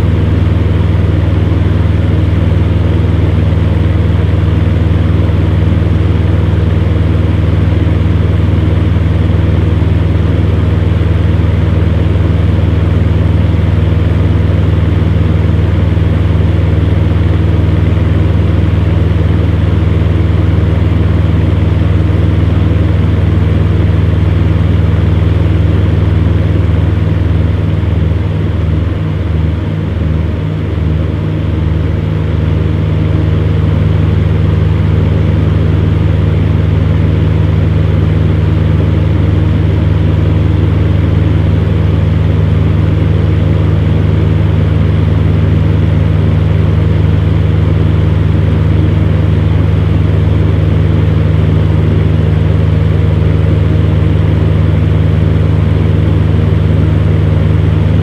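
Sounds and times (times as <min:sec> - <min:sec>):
electric fan heater humming: 0:00.0 - 0:58.0.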